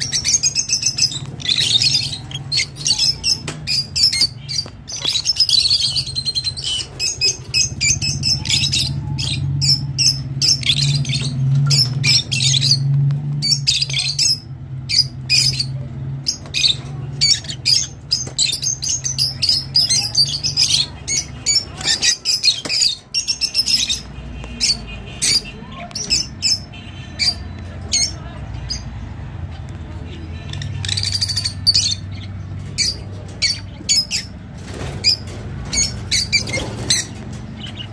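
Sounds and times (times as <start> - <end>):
lovebirds chirping and squawking: 0.0 - 37.9.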